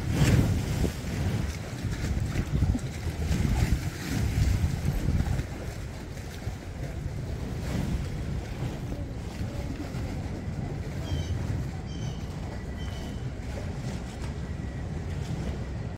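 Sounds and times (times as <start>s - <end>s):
wind rumbling on microphone: 0.0s - 15.9s.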